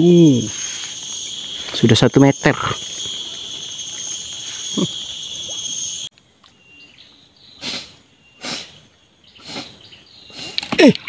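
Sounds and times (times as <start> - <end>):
high-pitched insect chorus: 0.0 - 10.8.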